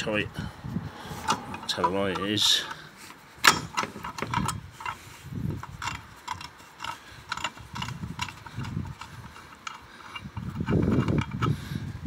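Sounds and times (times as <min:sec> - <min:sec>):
metallic clicks and knocks: 0:01.2 - 0:11.6.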